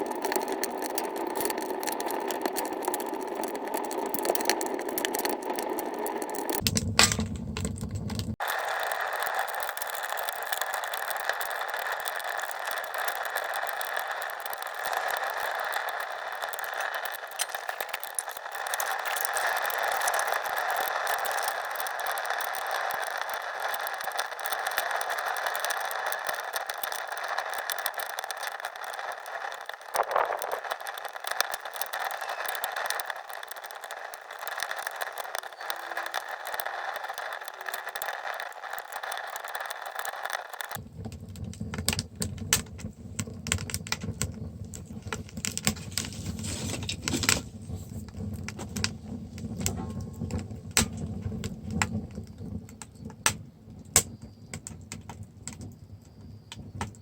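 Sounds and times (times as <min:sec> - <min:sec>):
fire hissing: 0:00.0 - 0:41.0, 0:42.2 - 0:52.0
wood fire crackling: 0:00.0 - 0:57.0.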